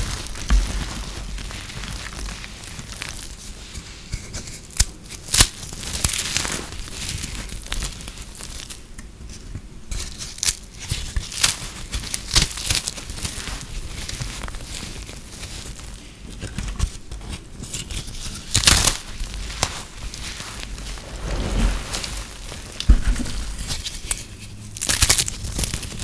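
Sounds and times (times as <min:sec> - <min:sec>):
brittle foam crunching: 0:00.0 - 0:08.9, 0:09.9 - 0:26.0.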